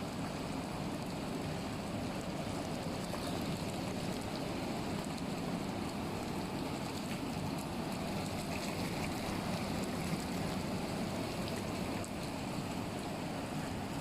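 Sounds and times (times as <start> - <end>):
spa tub water rushing and splashing: 0.0 - 14.0.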